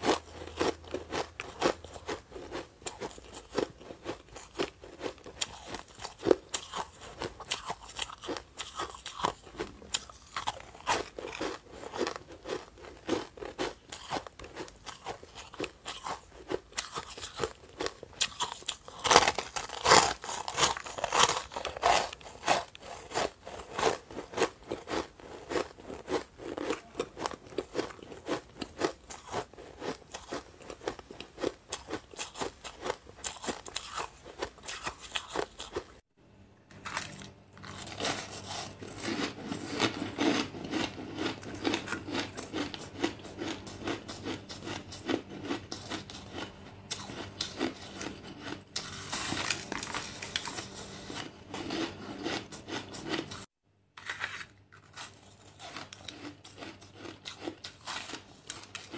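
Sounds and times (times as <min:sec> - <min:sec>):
crunching shaved ice: 0:00.0 - 0:35.8, 0:36.7 - 0:53.4, 0:54.0 - 0:58.9.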